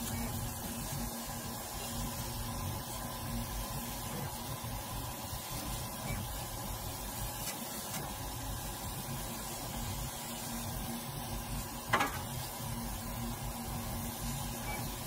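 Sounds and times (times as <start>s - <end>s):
laser cutter hissing: 0.0s - 15.0s.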